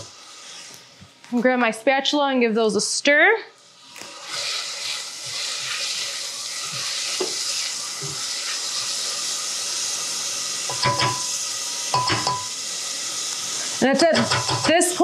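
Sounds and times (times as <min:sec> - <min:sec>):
onions sizzling in hot oil: 0:00.0 - 0:00.9, 0:03.6 - 0:15.0.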